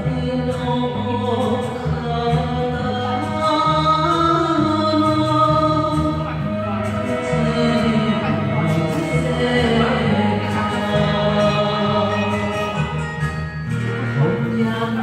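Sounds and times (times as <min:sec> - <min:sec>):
person singing: 0:00.0 - 0:15.0
band accompaniment: 0:01.0 - 0:15.0.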